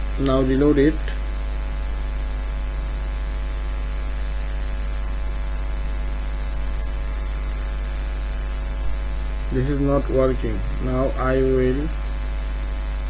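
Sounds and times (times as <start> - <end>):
electrical mains hum: 0.0 - 13.0
faint static hiss: 0.0 - 13.0.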